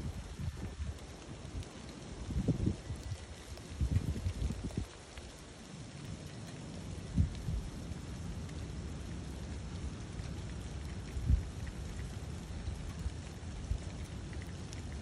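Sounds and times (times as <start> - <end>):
wet snow falling: 0.0 - 15.0
wind rumble on microphone: 0.0 - 15.0.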